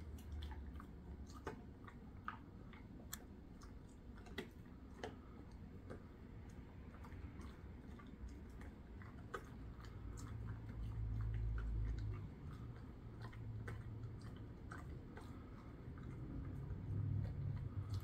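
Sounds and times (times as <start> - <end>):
dog chewing treat: 0.0 - 18.0.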